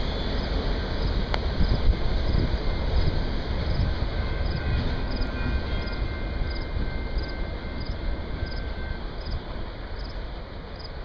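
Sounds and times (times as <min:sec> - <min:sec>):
freight train rolling on rails: 0:00.0 - 0:11.0.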